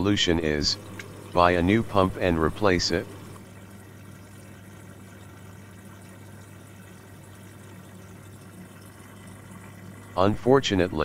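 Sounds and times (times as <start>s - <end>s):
pump humming: 0.0s - 11.0s
water churning: 0.0s - 11.0s.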